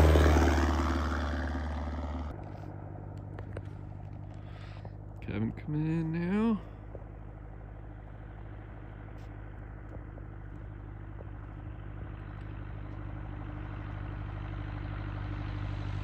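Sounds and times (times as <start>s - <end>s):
airplane piston engine droning: 0.0s - 16.0s.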